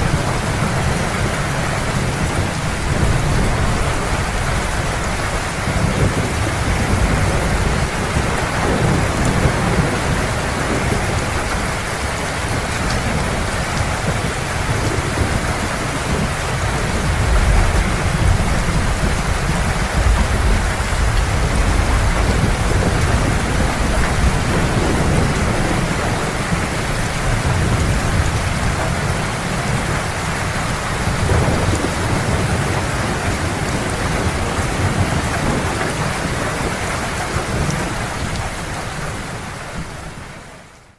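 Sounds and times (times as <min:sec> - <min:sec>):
rolling thunder: 0:00.0 - 0:40.2
heavy rain pouring: 0:00.0 - 0:40.9.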